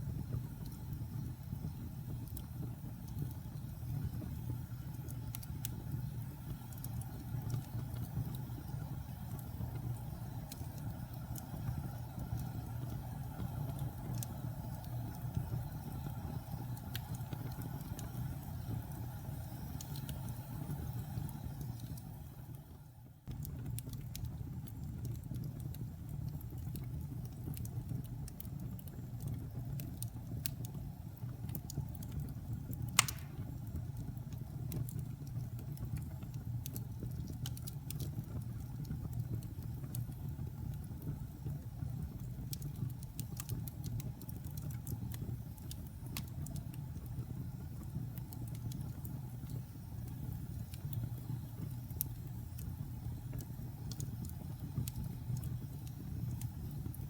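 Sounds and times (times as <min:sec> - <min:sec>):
fire popping: 0:00.0 - 0:22.6, 0:23.3 - 0:57.0
wood fire crackling: 0:00.0 - 0:57.0.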